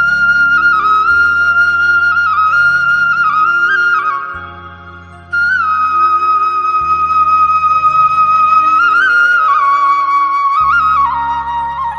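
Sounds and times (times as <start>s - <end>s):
flute playing slow melody: 0.0s - 11.9s.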